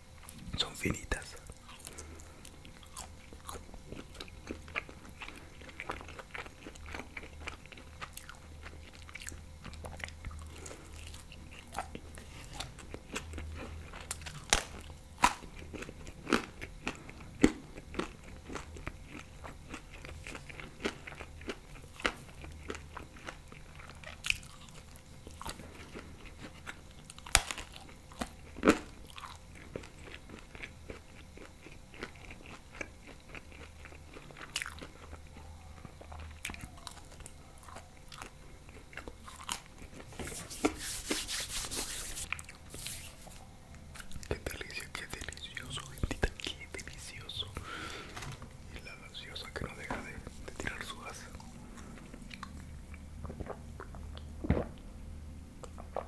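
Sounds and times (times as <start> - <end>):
chewing crunchy pizza crust: 0.1 - 54.9, 55.6 - 56.0.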